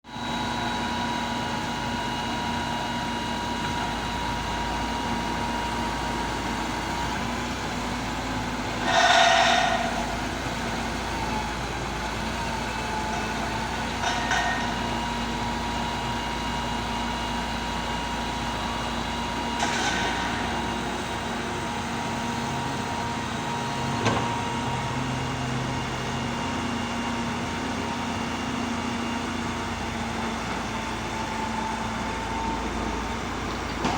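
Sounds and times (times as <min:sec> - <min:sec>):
construction machinery engine hum: 0:00.1 - 0:33.9.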